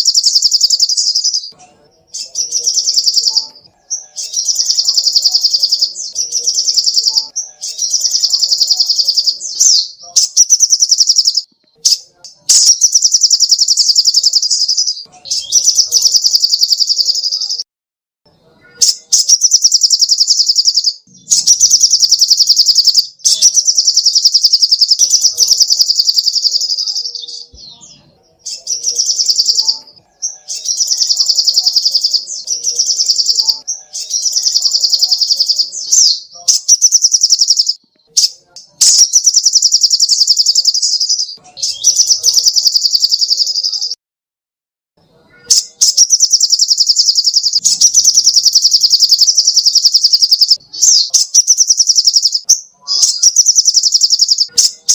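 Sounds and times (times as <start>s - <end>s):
bird high-pitched trills: 0.0s - 17.6s, 18.6s - 43.9s, 45.3s - 54.9s.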